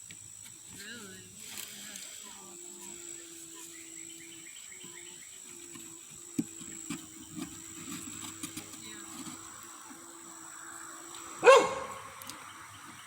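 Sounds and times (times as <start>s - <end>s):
honeybees humming: 0.0s - 13.0s
insects chirring: 0.0s - 13.0s.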